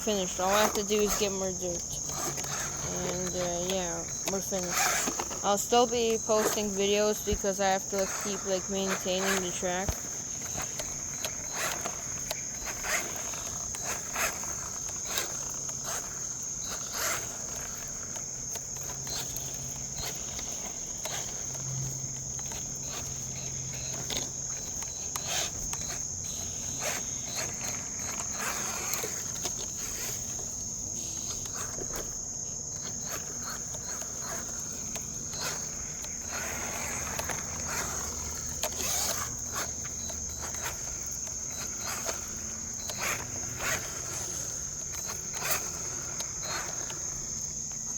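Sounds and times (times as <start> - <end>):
crickets chirring: 0.0 - 47.9.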